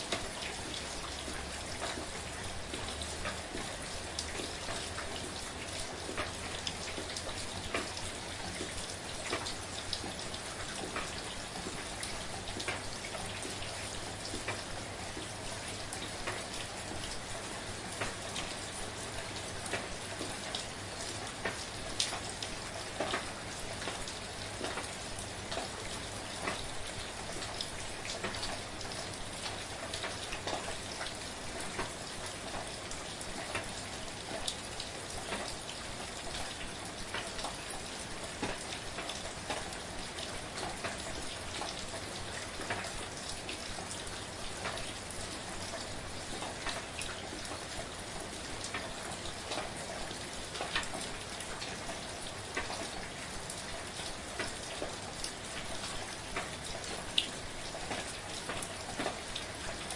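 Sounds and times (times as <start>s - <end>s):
gentle rain pattering: 0.0s - 59.9s.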